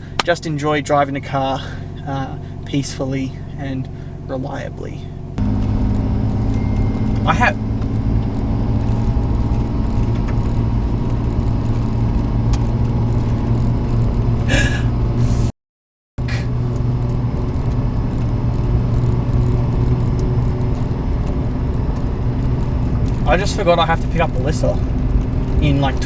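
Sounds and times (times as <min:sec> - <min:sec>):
car engine cruising: 0:00.0 - 0:15.5, 0:16.2 - 0:26.0
road noise inside car: 0:00.0 - 0:15.5, 0:16.2 - 0:26.0.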